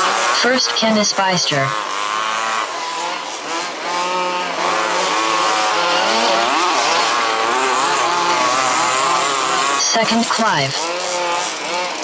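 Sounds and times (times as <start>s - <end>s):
small petrol engines revving: 0.0s - 12.0s.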